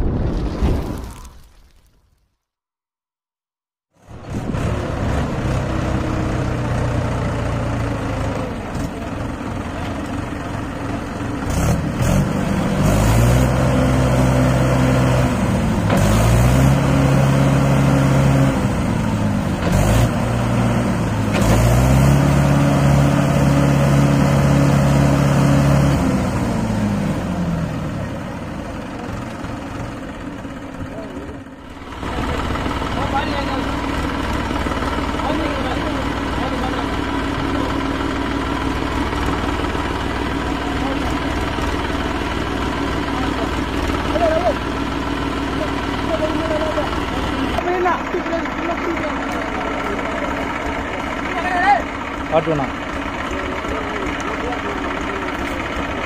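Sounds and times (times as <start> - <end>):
diesel tractor engine revving: 4.0 - 56.0.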